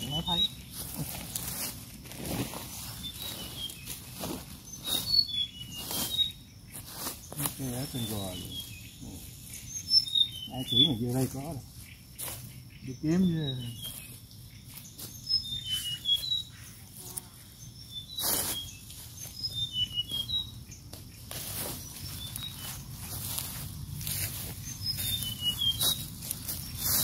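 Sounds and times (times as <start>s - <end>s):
hands digging in soil and leaves: 0.0s - 17.2s, 17.9s - 27.0s
small birds chirping: 0.0s - 27.0s.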